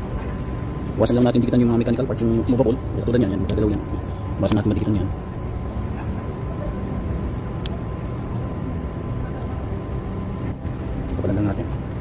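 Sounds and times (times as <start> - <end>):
faint hum: 0.0 - 12.0
low background rumble: 0.0 - 12.0.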